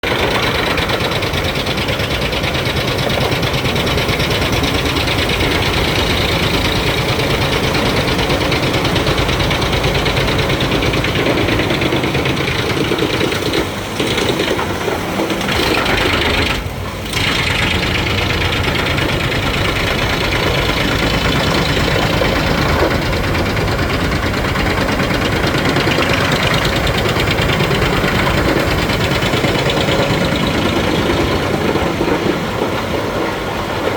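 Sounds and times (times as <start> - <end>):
wood chipper running: 0.0 - 33.9.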